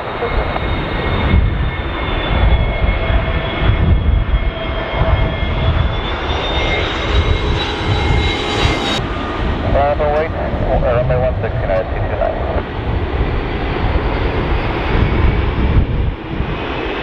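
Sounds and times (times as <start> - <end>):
jet engines whining: 0.0 - 17.0
wind buffeting microphone: 0.0 - 17.0.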